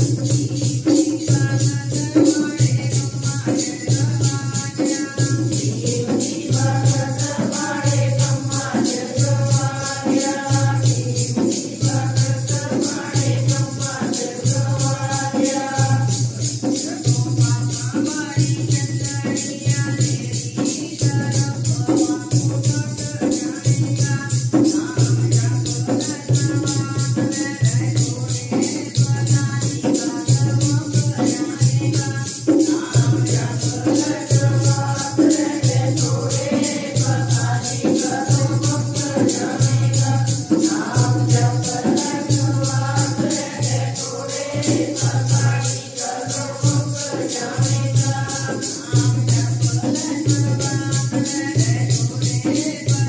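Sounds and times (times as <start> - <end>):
jingling hand percussion: 0.0 - 53.0
women singing devotional song: 0.0 - 53.0.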